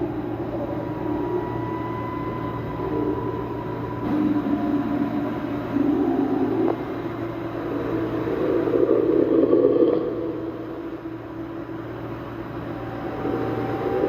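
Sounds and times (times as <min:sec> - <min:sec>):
constant hum: 0:00.0 - 0:14.0
low rumbling drone: 0:00.0 - 0:14.0
thin high whine: 0:00.0 - 0:14.0.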